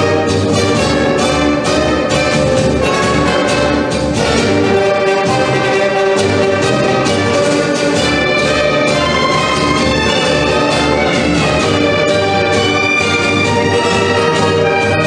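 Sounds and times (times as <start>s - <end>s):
orchestral tango music: 0.0s - 15.0s.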